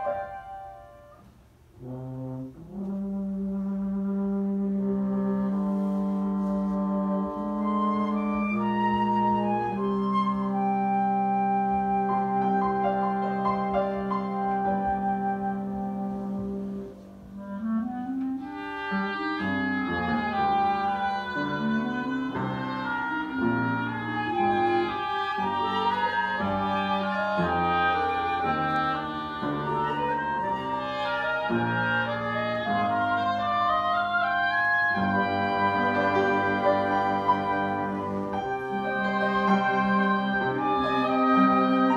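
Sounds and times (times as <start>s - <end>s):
small ensemble with piano: 0.0s - 41.9s.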